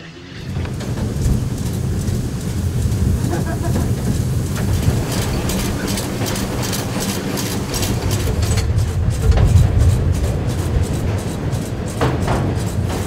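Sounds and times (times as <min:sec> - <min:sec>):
cab and wheels rumbling: 0:00.0 - 0:13.0
steam locomotive exhaust beats: 0:00.0 - 0:13.0.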